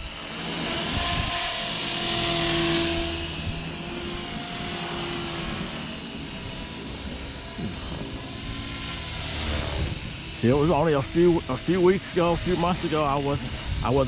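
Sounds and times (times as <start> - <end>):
motor whine: 0.0 - 14.0
rotor blades whirring: 0.0 - 14.0.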